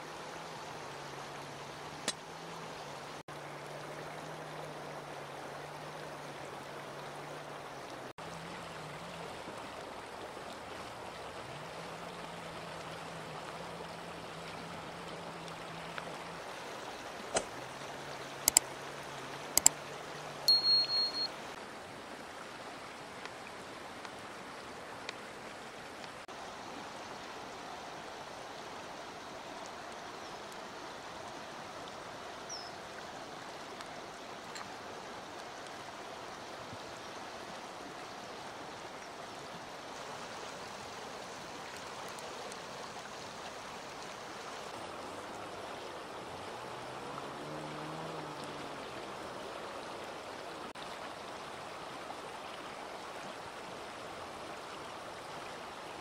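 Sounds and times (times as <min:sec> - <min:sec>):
river flowing over stones: 0:00.0 - 0:56.0.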